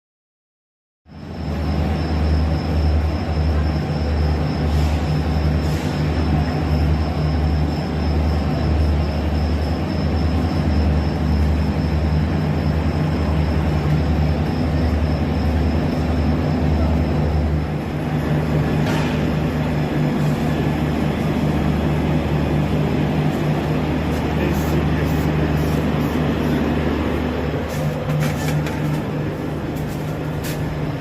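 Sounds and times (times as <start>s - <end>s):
train rumbling: 1.1s - 31.0s.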